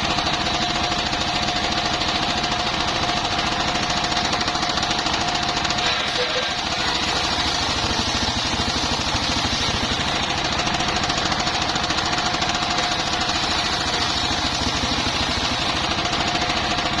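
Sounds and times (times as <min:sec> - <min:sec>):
circular sawmill running: 0:00.0 - 0:17.0.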